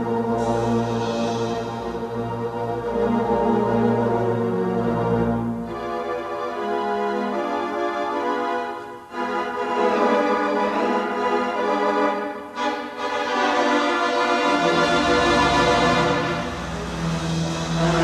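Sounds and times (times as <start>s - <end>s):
organ playing sustained chords: 0.0s - 18.0s.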